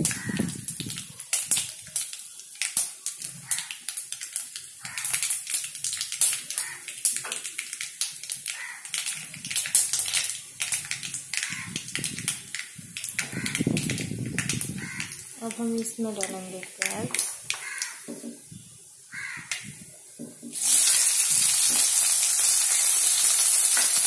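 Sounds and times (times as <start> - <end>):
seeds crackling in hot oil: 0.0 - 24.0.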